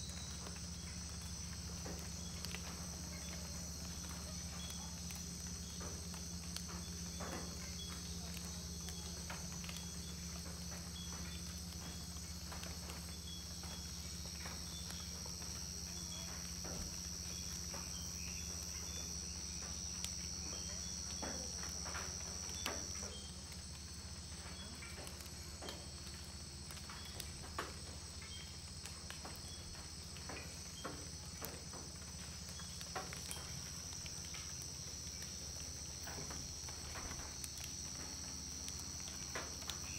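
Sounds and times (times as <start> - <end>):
repeating insect chirp: 0.0 - 39.9
shrill insect trill: 0.0 - 39.9.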